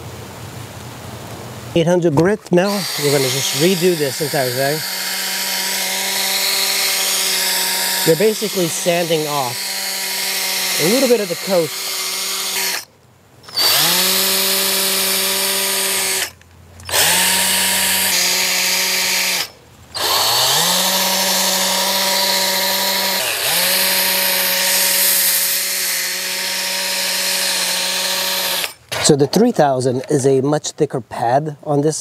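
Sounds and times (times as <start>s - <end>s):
power drill sanding plastic: 2.4s - 12.9s, 13.5s - 29.2s.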